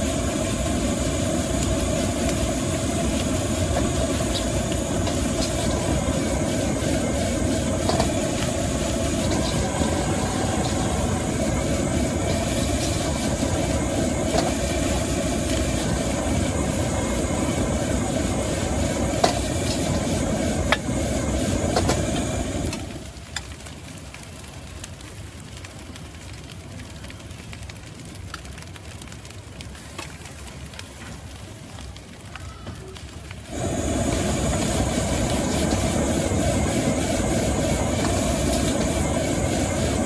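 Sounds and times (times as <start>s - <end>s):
gas burner roaring: 0.0s - 40.0s.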